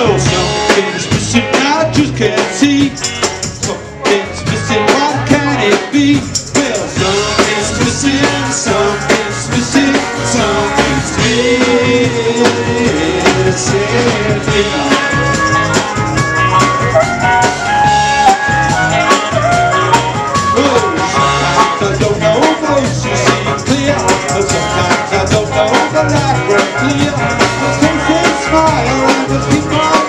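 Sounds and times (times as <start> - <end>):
drum kit: 0.0 - 30.0
electric guitar: 0.0 - 30.0.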